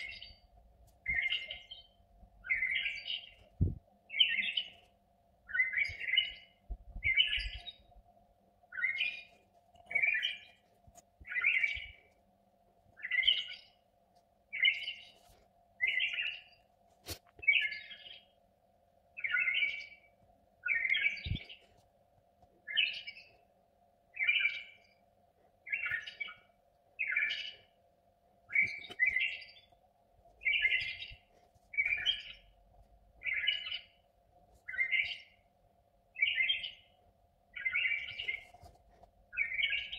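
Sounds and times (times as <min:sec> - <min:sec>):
bird chirping: 0:00.0 - 0:08.0, 0:08.7 - 0:12.2, 0:13.0 - 0:13.8, 0:14.5 - 0:16.7, 0:17.4 - 0:18.4, 0:19.2 - 0:21.8, 0:22.6 - 0:23.5, 0:24.1 - 0:25.0, 0:25.6 - 0:27.8, 0:28.5 - 0:35.5, 0:36.1 - 0:39.9
faint steady hum: 0:00.0 - 0:39.9.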